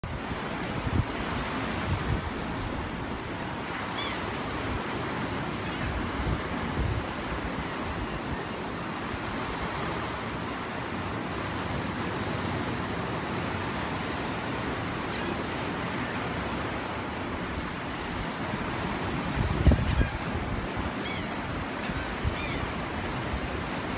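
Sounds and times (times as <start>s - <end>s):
ocean surf breaking: 0.0s - 23.9s
wind gusting across microphone: 0.0s - 23.9s.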